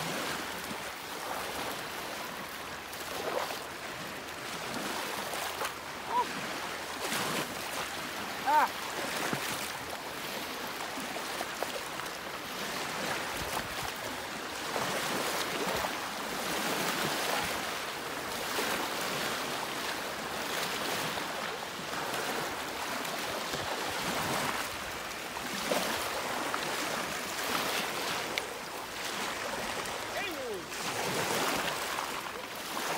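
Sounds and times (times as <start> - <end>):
waves lapping on pebble shore: 0.0 - 32.9.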